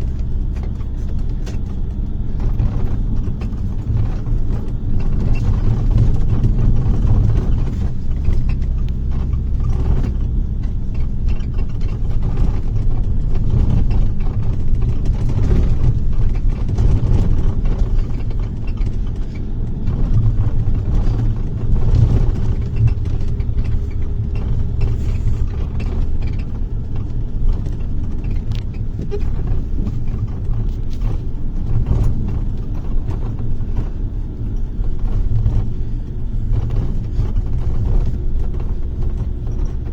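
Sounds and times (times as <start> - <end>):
bodywork rattles and knocks: 0.0 - 39.9
bus engine and road noise: 0.0 - 39.9.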